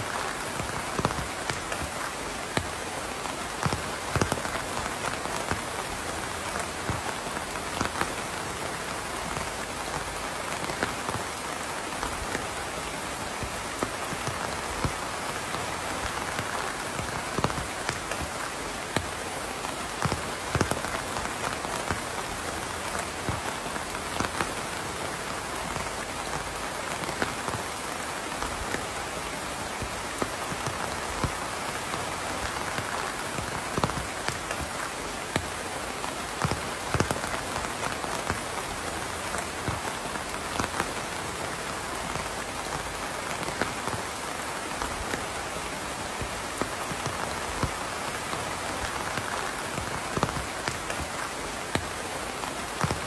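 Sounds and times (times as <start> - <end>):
rain hissing: 0.0 - 53.0
raindrops ticking: 0.0 - 53.0.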